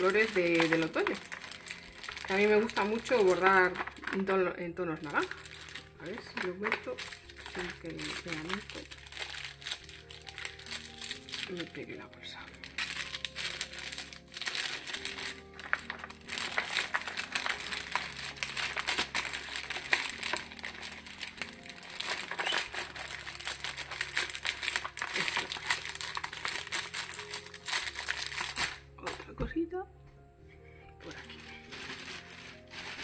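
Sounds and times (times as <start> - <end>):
plastic bag crinkling: 0.0 - 29.4, 31.0 - 33.0
soft background music: 0.0 - 33.0.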